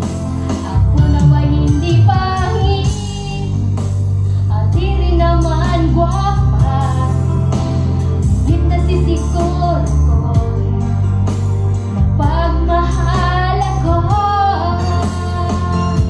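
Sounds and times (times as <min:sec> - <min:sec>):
backing track with bass and beat: 0:00.0 - 0:16.0
woman singing a ballad: 0:00.3 - 0:07.8, 0:08.4 - 0:11.0, 0:12.0 - 0:16.0.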